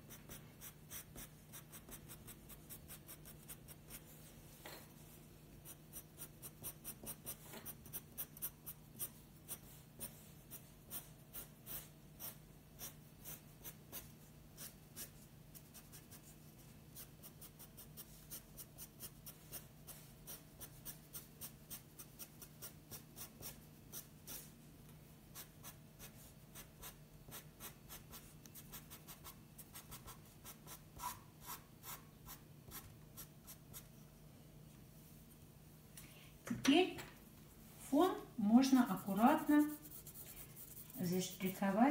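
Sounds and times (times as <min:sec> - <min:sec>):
pencil scratching on paper: 0:00.0 - 0:04.3, 0:05.6 - 0:24.5, 0:25.3 - 0:33.9, 0:38.6 - 0:41.9
faint low hum: 0:00.1 - 0:41.9.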